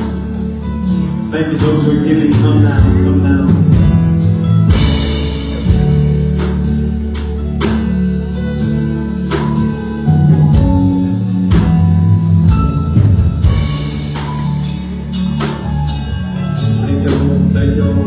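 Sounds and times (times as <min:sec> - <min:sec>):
church band music: 0:00.0 - 0:18.0
steady drum beat: 0:00.0 - 0:18.0.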